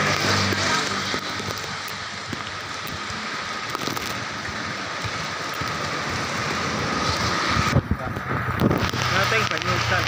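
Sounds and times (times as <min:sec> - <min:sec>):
heavy rain hissing: 0:00.0 - 0:10.0
wind buffeting: 0:00.5 - 0:10.0.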